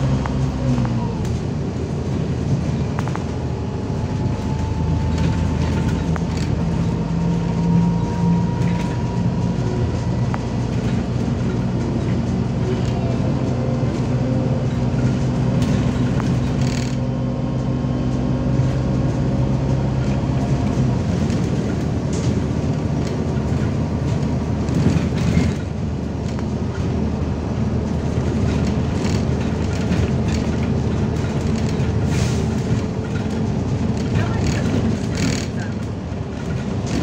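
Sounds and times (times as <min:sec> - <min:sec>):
bus body clicks and rattles: 0:00.0 - 0:37.0
bus diesel engine humming: 0:00.0 - 0:37.0
road noise: 0:00.0 - 0:37.0.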